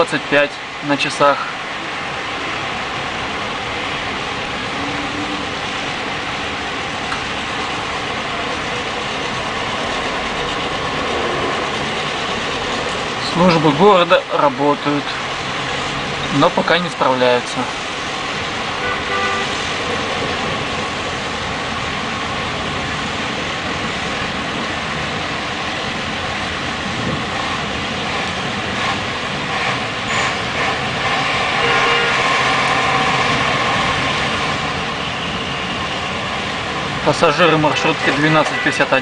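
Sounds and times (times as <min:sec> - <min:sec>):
rain hiss: 0:00.0 - 0:39.0
traffic on wet street: 0:00.0 - 0:39.0
vehicle engines running: 0:00.0 - 0:39.0.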